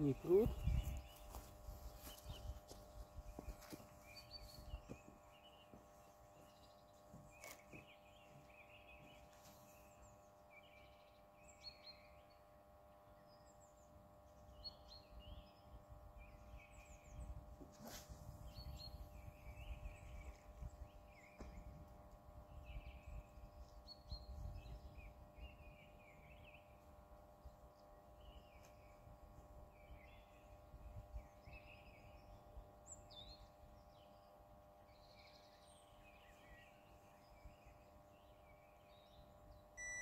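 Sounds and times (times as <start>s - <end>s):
faint birdsong chirps: 0.0s - 40.0s.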